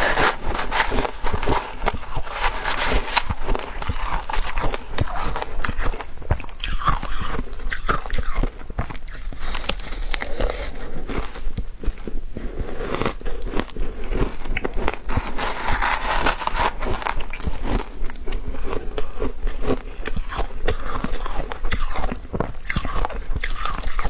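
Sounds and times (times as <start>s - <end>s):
chewing crunchy ice: 0.0s - 24.0s.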